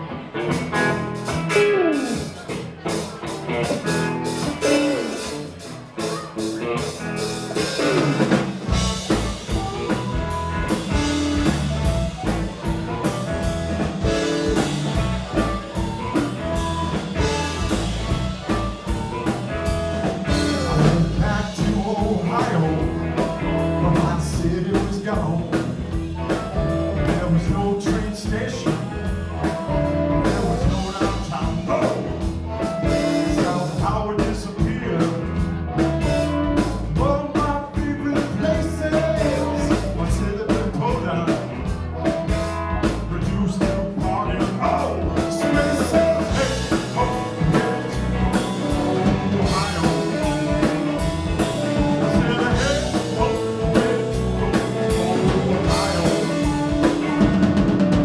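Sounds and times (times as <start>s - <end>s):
bass: 0.0s - 58.0s
drums: 0.0s - 58.0s
electric guitar: 0.0s - 58.0s.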